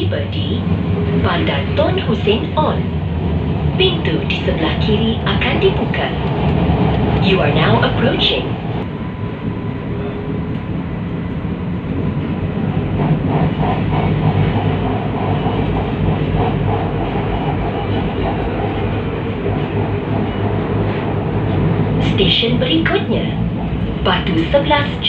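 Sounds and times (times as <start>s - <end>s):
metro train rumble and hum: 0.0s - 25.0s.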